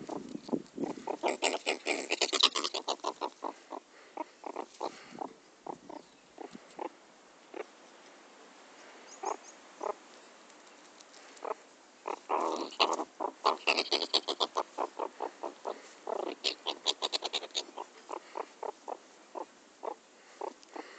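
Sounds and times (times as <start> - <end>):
meerkat grunting: 0.0 - 7.7, 9.2 - 10.0, 11.4 - 20.9.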